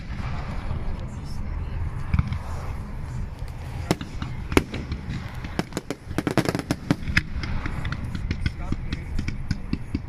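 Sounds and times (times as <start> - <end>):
fireworks popping and crackling: 0.0 - 10.0.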